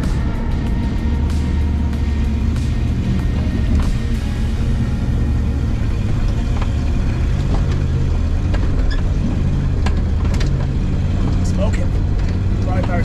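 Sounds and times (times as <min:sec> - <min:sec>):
engine running under load: 0:00.0 - 0:13.0.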